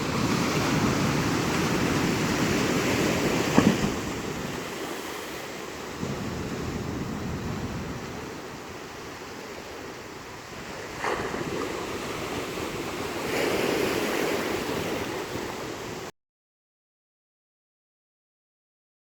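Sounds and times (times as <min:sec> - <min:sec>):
waves breaking: 0:00.0 - 0:16.1
wind on microphone: 0:00.0 - 0:16.1.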